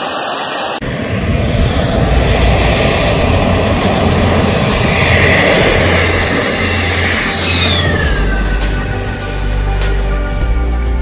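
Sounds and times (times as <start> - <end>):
jet engine roar: 0.0 - 10.4.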